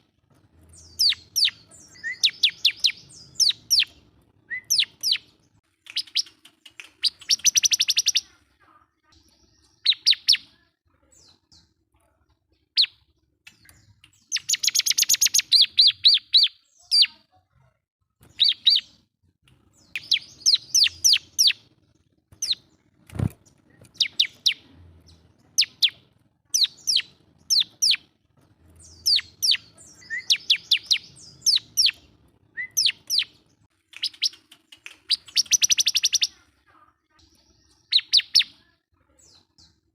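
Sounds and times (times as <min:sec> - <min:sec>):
bird high chirping song: 0:00.5 - 0:08.4, 0:09.0 - 0:11.7, 0:12.7 - 0:17.3, 0:18.2 - 0:19.0, 0:19.7 - 0:39.8.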